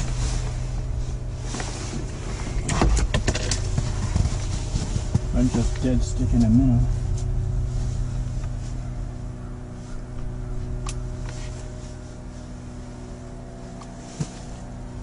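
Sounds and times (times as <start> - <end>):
sawmill machine drone: 0.0 - 15.0.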